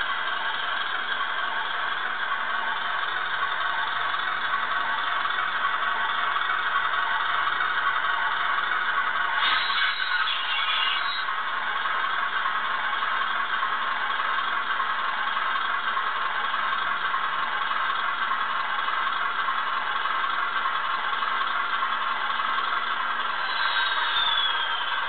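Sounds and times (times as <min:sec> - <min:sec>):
diesel engine sound from tiny speaker: 0:00.0 - 0:25.0.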